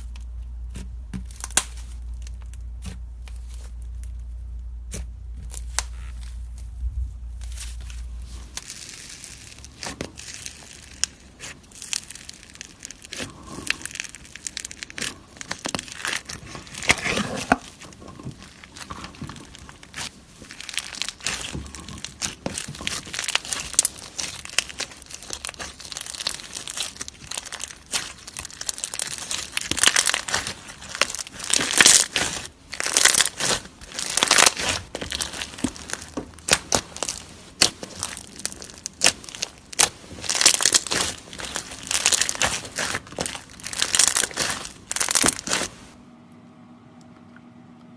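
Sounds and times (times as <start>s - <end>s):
slime crackling and popping: 0.0s - 45.9s.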